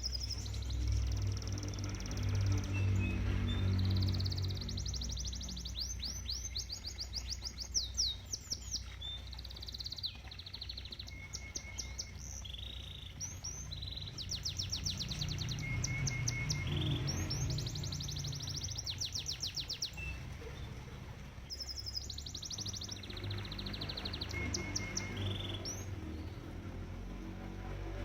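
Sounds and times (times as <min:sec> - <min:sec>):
canary singing trills: 0:00.0 - 0:20.8, 0:21.4 - 0:28.0
steady low rumble: 0:00.0 - 0:28.0.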